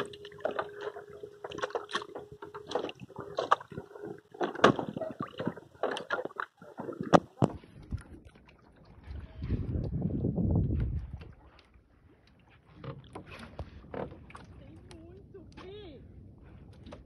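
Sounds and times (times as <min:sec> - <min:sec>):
water splashing against canoe hull: 0:00.0 - 0:15.8, 0:16.4 - 0:17.0
paddle strokes in water: 0:00.0 - 0:17.0.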